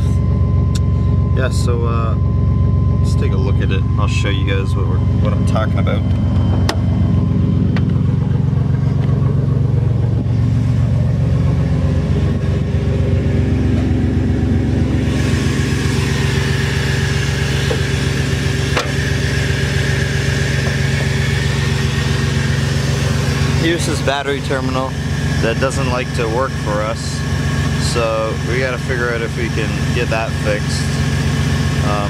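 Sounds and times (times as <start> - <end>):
van engine idling: 0.0 - 32.0.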